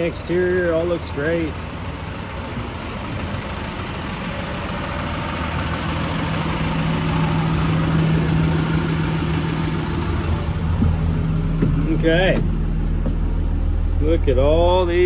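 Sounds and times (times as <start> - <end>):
diesel bus engine idling: 0.0 - 15.0.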